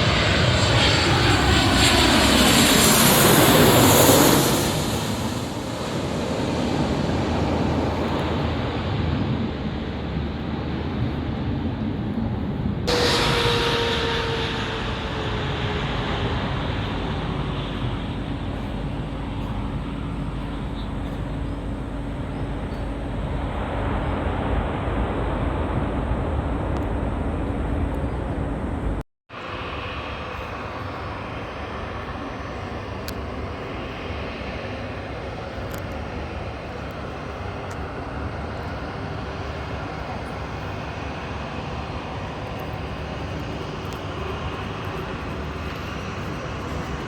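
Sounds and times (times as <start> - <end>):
jet airliner engines passing: 0.0 - 47.0.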